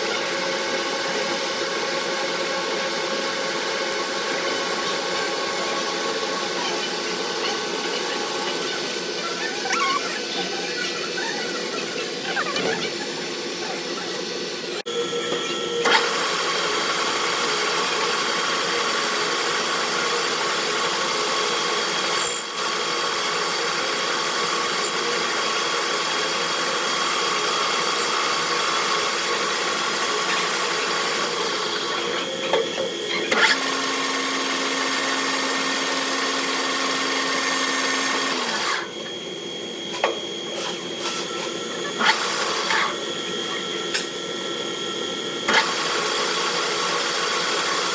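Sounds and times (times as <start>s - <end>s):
metalworking machine whining: 0.0s - 47.9s.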